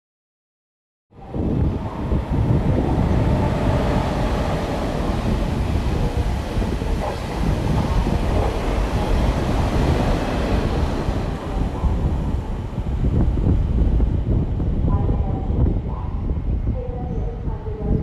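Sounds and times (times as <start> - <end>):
high-speed train passing: 1.2 - 18.0.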